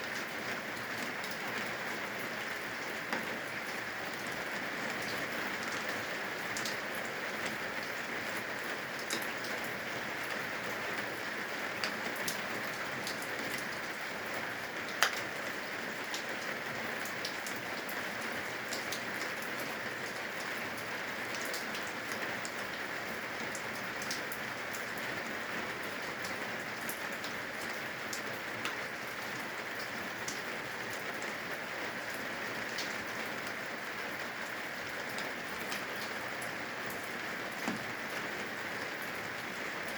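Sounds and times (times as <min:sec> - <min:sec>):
rain falling on eaves: 0:00.0 - 0:39.9.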